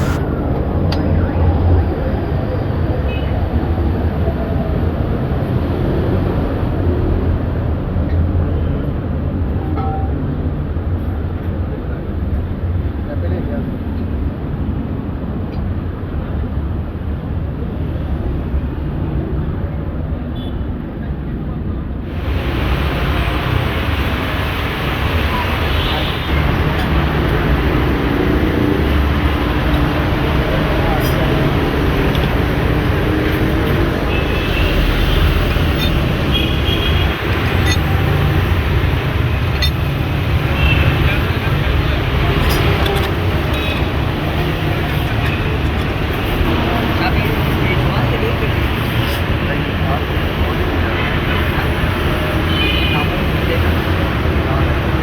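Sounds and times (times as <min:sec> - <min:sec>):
loud rumbling background noise: 0:00.0 - 0:55.0.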